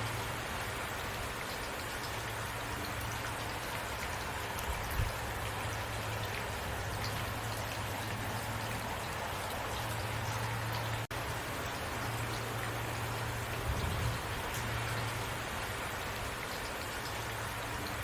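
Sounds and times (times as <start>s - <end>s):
steady rainfall: 0.0s - 18.0s.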